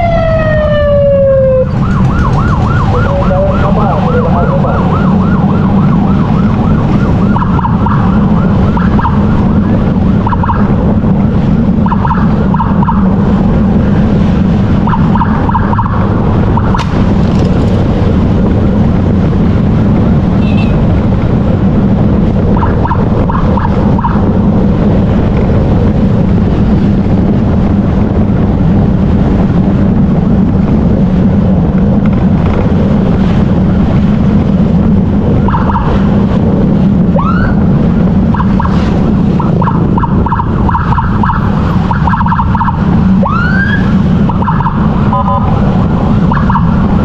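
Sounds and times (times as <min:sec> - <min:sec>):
emergency siren: 0:00.0 - 0:29.0, 0:33.2 - 0:47.0
road noise: 0:00.0 - 0:47.0.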